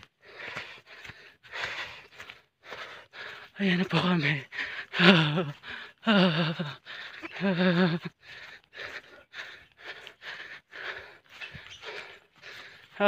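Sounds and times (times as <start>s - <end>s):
man breathing hard: 0.0s - 13.0s
man gasping: 0.0s - 13.0s.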